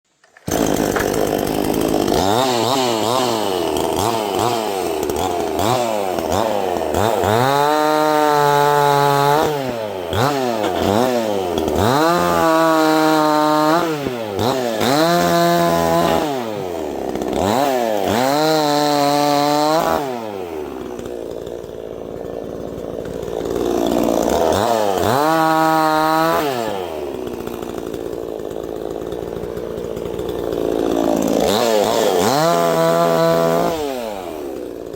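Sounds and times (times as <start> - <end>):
chainsaw revving and idling: 0.2 - 34.9.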